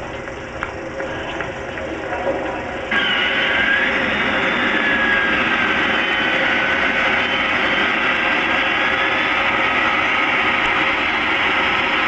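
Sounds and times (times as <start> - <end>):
faint high whine: 0.0 - 12.0
jet engines running: 0.0 - 12.0.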